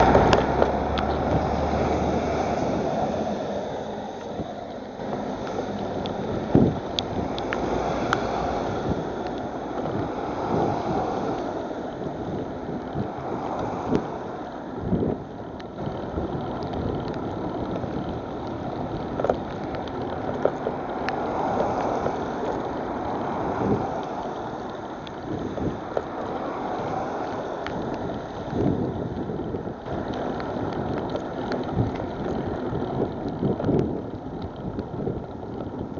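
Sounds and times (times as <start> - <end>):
bicycle tyres on wet road: 0.0 - 35.9
wind on microphone: 0.0 - 35.9.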